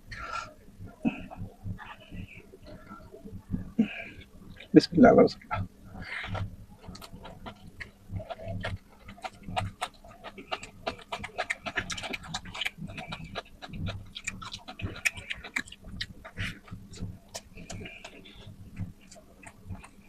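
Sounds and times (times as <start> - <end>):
person chewing and lip smacking: 1.1 - 4.8, 5.4 - 20.0.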